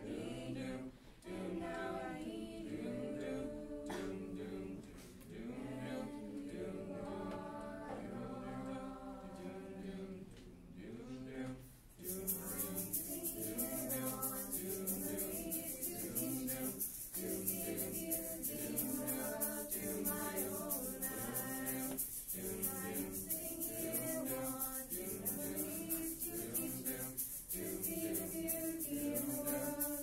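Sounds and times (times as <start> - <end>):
group singing a cappella: 0.0 - 30.0
shaker-like hiss: 0.0 - 30.0.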